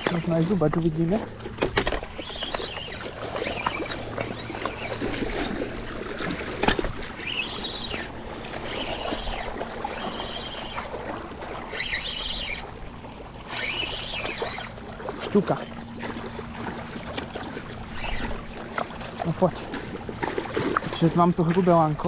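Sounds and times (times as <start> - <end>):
water splashing and swirling: 0.0 - 22.0.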